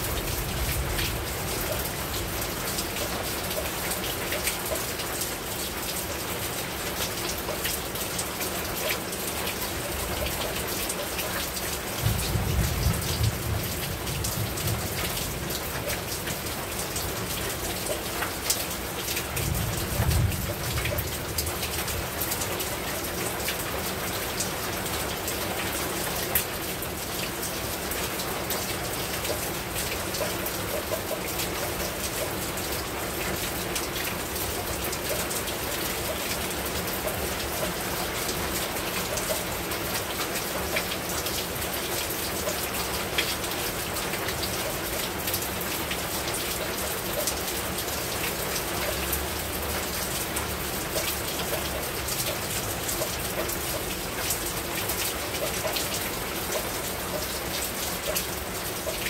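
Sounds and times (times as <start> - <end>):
heavy rain on a rooftop: 0.0 - 59.0.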